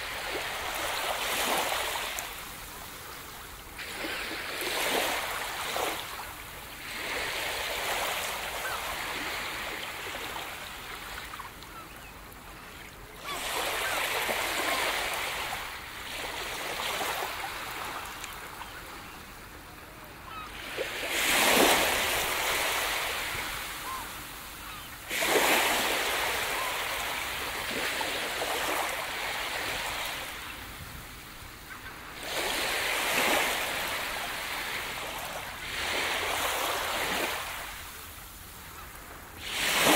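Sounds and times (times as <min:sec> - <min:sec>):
waves washing onto beach: 0:00.0 - 0:39.9.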